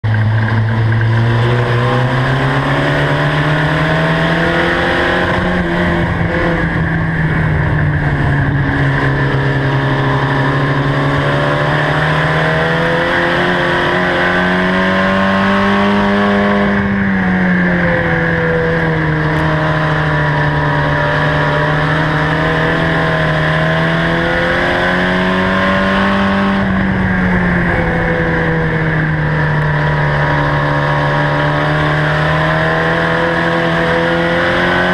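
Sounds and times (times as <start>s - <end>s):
race truck engine: 0.0s - 34.9s.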